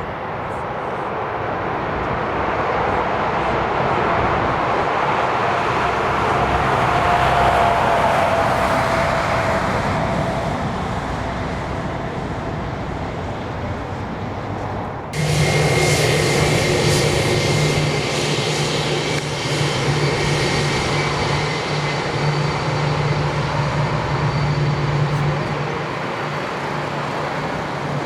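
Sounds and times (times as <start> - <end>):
faint engine whine: 0.0 - 28.0
jet engines roaring: 0.0 - 28.0.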